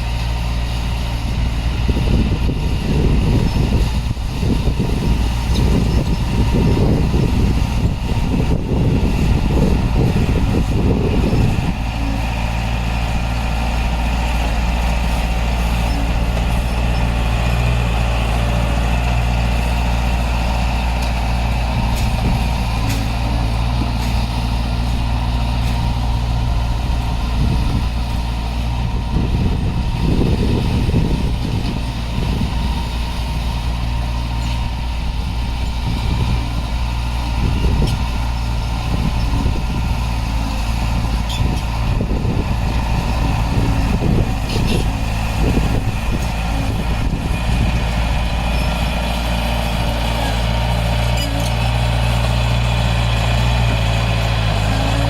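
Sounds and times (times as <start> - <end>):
engine clattering: 0.0 - 55.0
heavy diesel engine running: 0.0 - 55.0.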